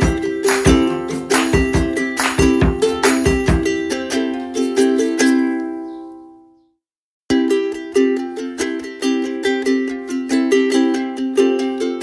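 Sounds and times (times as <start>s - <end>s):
plucked string music: 0.0s - 6.7s, 7.3s - 12.0s.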